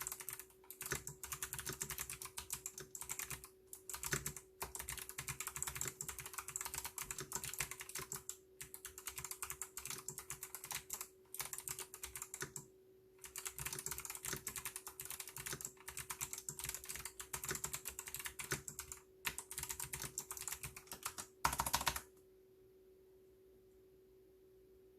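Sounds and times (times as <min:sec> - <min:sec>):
mechanical keyboard typing: 0:00.0 - 0:12.6, 0:13.2 - 0:22.1.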